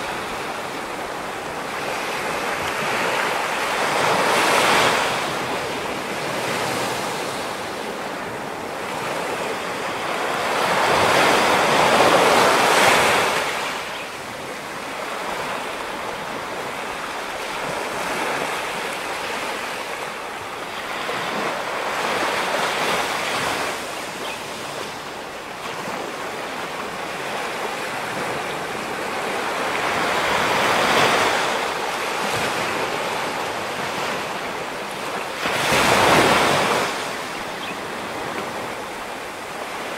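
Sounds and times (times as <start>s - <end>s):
ocean surf breaking on rocks: 0.0s - 13.9s, 14.6s - 39.9s.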